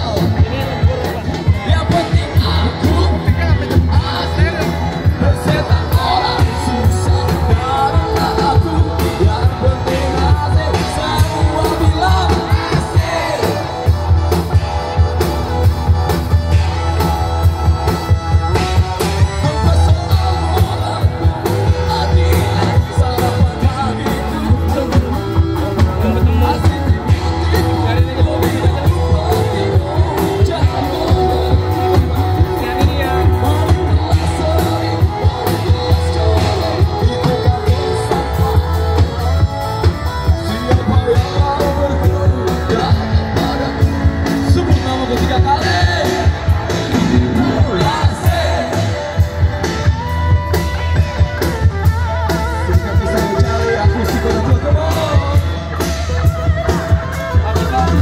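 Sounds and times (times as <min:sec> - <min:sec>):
live band playing: 0:00.0 - 0:58.0
person singing: 0:00.0 - 0:58.0.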